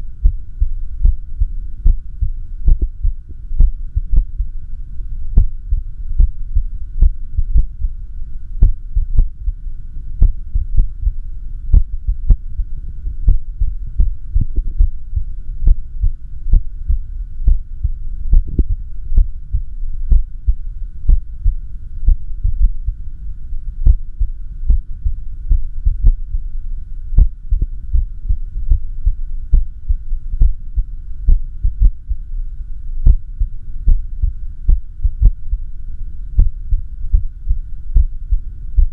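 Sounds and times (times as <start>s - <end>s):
heartbeat: 0.0s - 4.6s, 5.2s - 8.0s, 8.6s - 9.6s, 10.2s - 23.0s, 23.8s - 26.5s, 27.1s - 32.3s, 33.0s - 38.9s
steady low hum: 0.0s - 38.9s.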